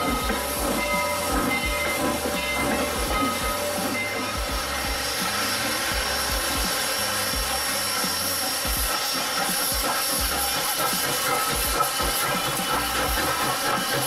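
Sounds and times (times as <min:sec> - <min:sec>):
steam hissing: 0:00.0 - 0:14.0
train wheels rumbling on rail: 0:00.0 - 0:14.0.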